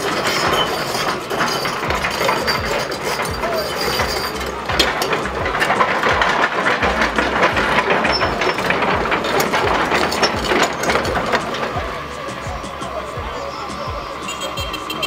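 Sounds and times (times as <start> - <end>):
diesel engine rumble: 0.0 - 15.0
metallic clanking and rattling: 0.0 - 15.0.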